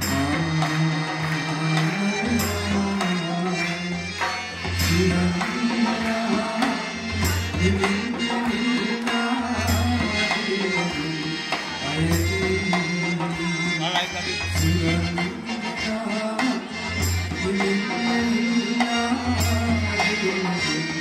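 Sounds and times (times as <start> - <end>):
bass line: 0.0 - 20.9
hand drums: 0.0 - 21.0
live band music: 0.0 - 21.0.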